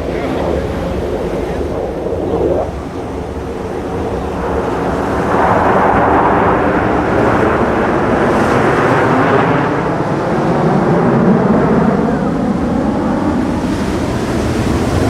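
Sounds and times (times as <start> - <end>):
fighter jet rumbling rush: 0.0 - 15.0.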